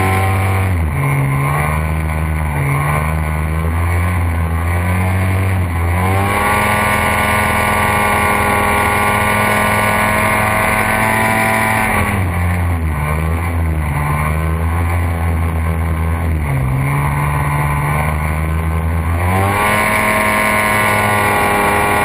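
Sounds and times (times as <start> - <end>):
hovercraft engine running: 0.0 - 22.0.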